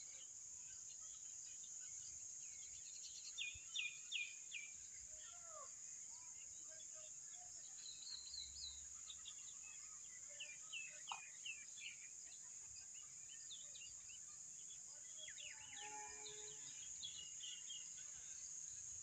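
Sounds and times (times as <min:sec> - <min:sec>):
steady high-pitched hiss: 0:00.0 - 0:15.6, 0:16.5 - 0:19.0
small birds chirping: 0:00.0 - 0:19.0.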